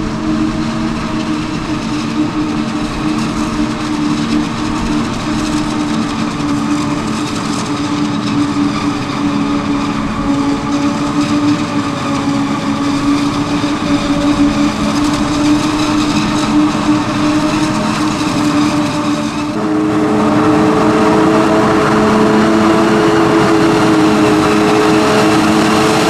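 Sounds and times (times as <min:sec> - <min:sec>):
forage harvester drone: 0:00.0 - 0:26.0
tractor driving: 0:00.0 - 0:26.0.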